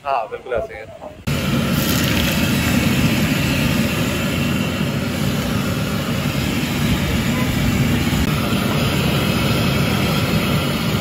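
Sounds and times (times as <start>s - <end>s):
fries sizzling in hot oil: 1.3s - 11.0s.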